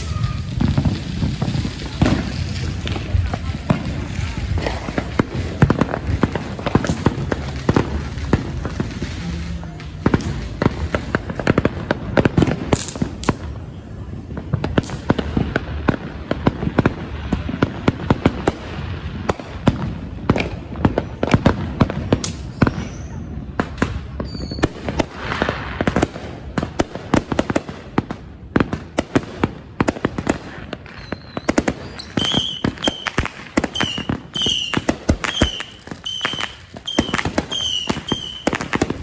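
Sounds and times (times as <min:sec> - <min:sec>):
fireworks bangs and crackling pops: 0:00.0 - 0:39.0.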